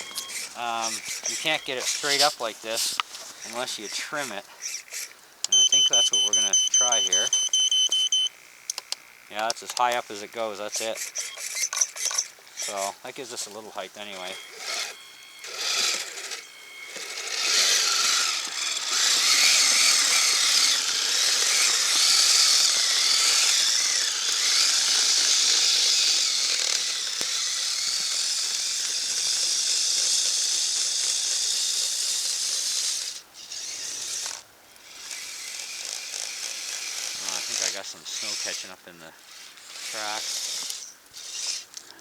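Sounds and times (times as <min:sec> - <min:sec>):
toy vehicle motor whining and rattling: 0:00.0 - 0:42.0.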